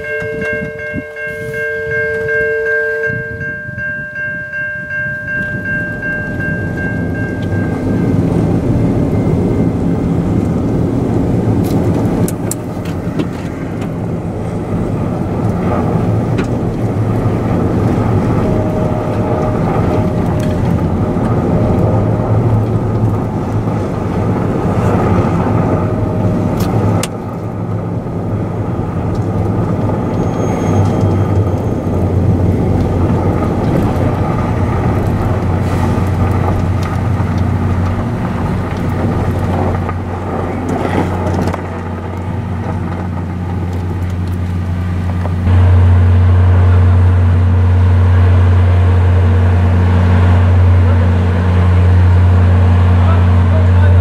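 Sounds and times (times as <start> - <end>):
car engine and tyre noise: 0.0 - 54.0
train low hum: 0.0 - 54.0.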